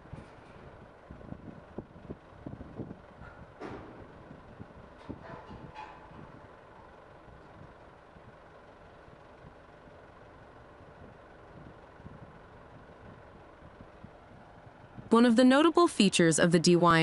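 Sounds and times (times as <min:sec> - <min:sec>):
diesel construction machinery running: 0:00.0 - 0:17.0.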